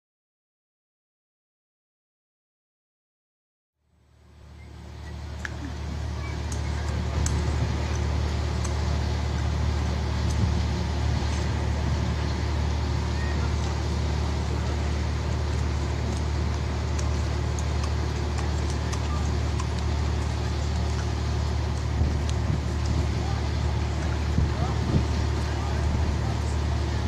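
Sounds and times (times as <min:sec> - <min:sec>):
street ambience rumble: 0:03.9 - 0:27.0.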